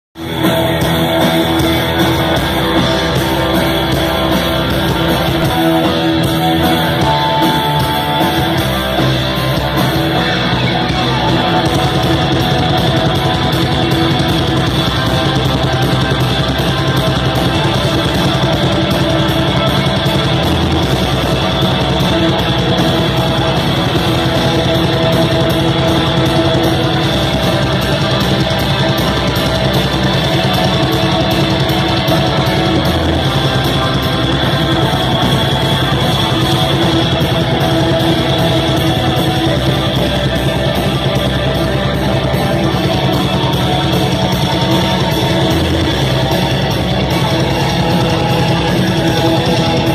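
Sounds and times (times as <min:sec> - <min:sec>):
distorted electric guitars: 0:00.0 - 0:49.9
fast dense drum beat: 0:00.2 - 0:49.9.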